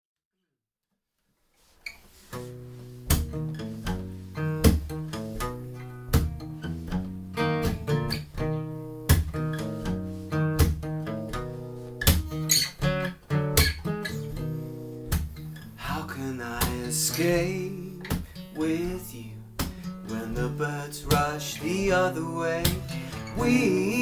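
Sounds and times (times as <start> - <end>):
acoustic guitar strumming: 2.1 - 24.0.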